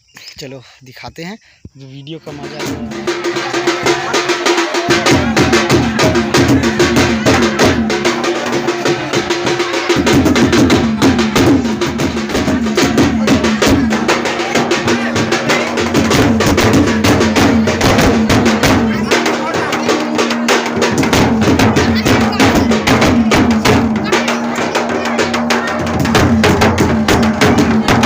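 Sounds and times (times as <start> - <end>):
dance music with fast drumming: 2.3 - 28.0.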